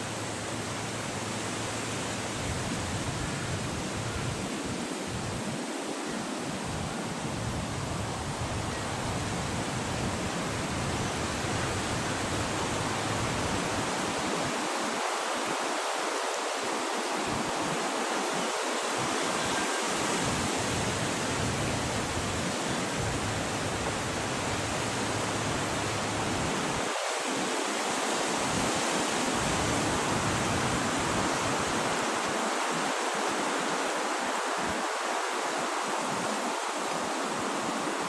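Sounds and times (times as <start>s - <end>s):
wind blowing: 0.0s - 38.0s.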